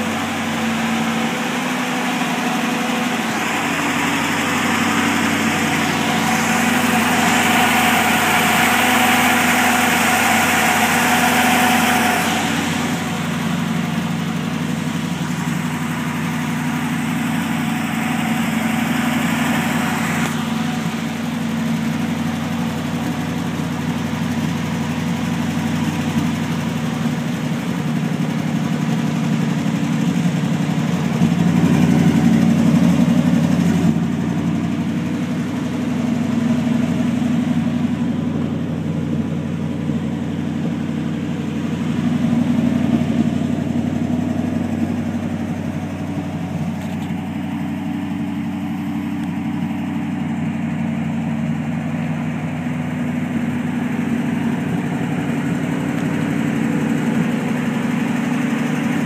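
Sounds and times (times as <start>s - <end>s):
pickup truck engine idling: 0.0s - 59.0s.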